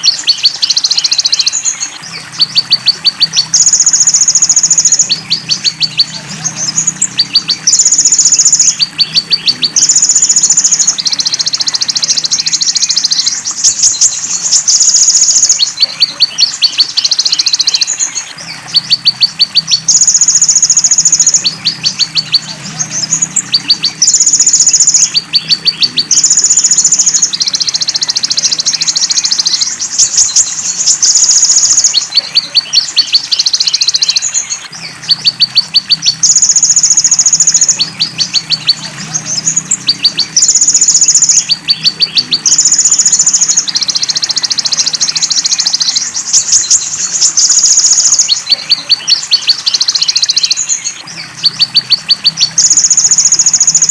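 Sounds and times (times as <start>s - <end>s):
high buzzy bird calls: 0.0s - 53.9s.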